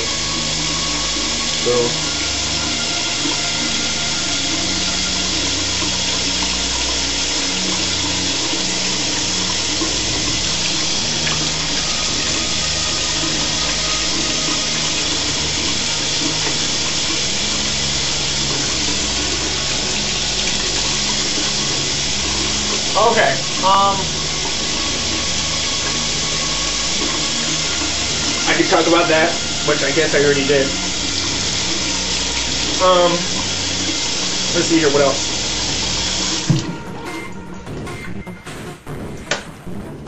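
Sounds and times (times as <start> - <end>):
running water hiss: 0.0 - 36.6.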